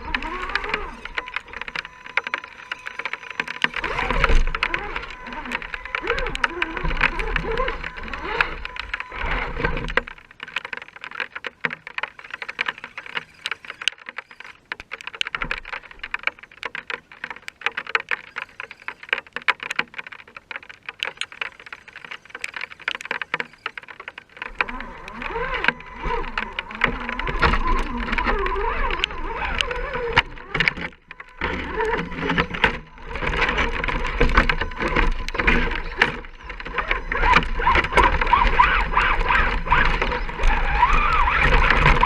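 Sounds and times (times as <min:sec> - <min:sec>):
raindrops ticking: 0:00.0 - 0:42.0.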